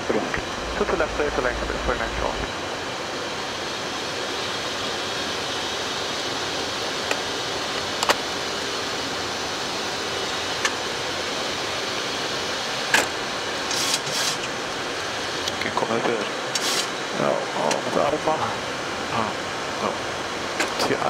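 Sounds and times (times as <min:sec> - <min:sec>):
cockpit airflow and air conditioning: 0:00.0 - 0:21.0.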